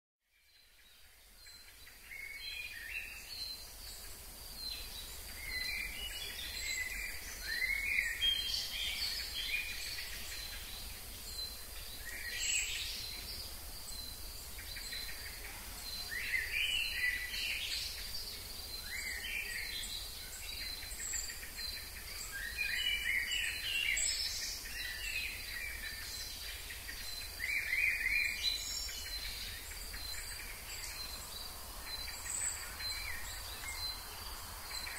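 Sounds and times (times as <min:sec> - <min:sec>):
birds singing: 0:00.2 - 0:34.9.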